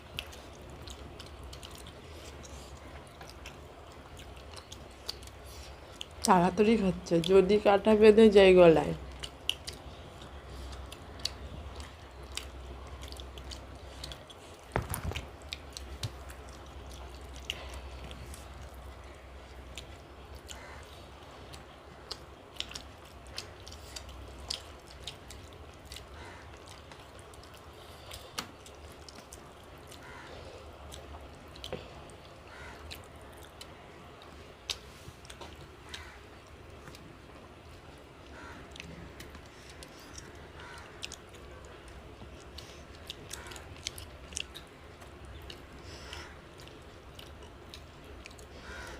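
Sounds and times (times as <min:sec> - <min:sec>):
chewing and mouth smacks: 0:00.0 - 0:06.4, 0:09.0 - 0:48.9
faint low hum: 0:00.0 - 0:48.9.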